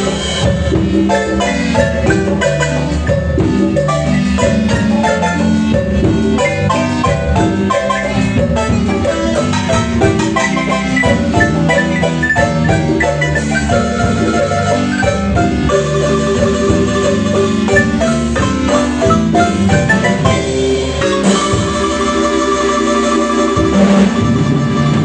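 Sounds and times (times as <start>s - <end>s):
marimba notes: 0.0s - 25.0s
steady bass line: 0.0s - 25.0s.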